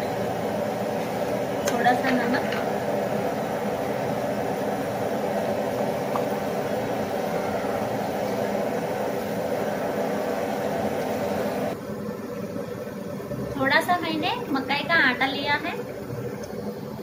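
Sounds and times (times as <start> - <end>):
mechanical hum with hiss: 0.0 - 17.0.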